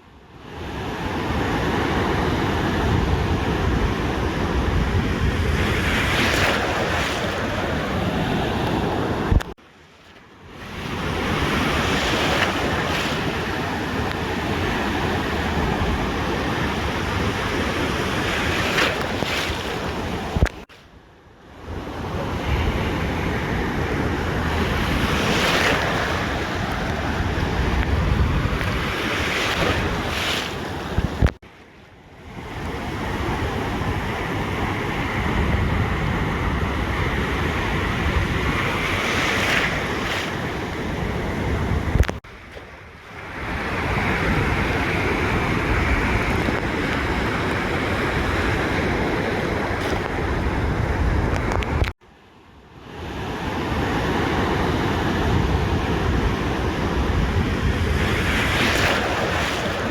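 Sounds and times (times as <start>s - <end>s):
surf washing on a beach: 0.0s - 59.9s
wind on microphone: 0.7s - 9.6s, 10.5s - 20.7s, 21.6s - 31.4s, 32.2s - 52.0s, 53.1s - 59.9s.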